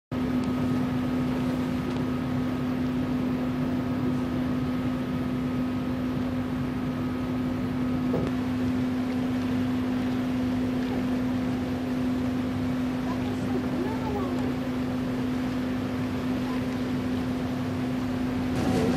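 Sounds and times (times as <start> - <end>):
ship engines droning: 0.1 - 18.9.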